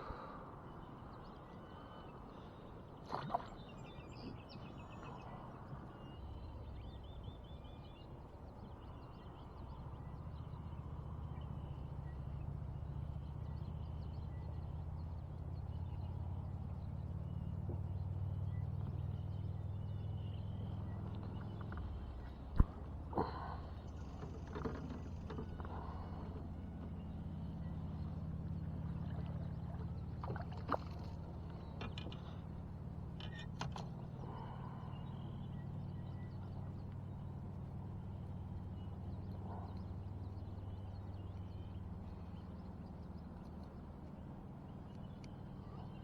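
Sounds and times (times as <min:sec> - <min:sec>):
boat motor humming: 0:08.9 - 0:46.0.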